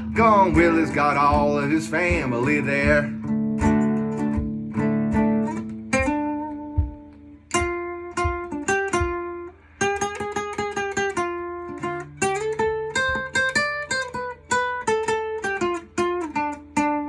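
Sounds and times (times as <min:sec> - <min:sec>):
acoustic guitar solo: 0:00.0 - 0:17.0.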